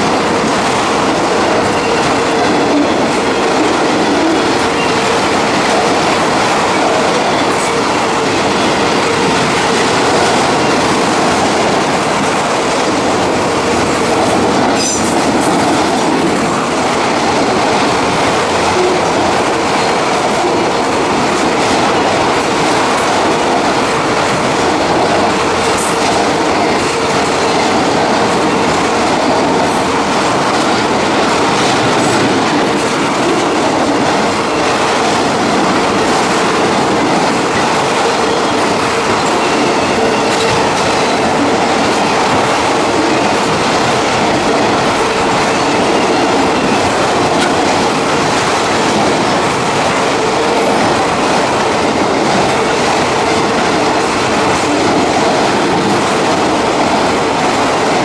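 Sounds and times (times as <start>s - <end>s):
train wheels running on rails: 0.0s - 58.0s.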